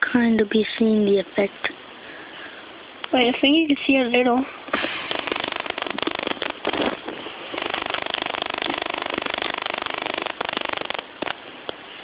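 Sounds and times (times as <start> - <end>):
rapid steady buzzing: 0.0 - 12.0.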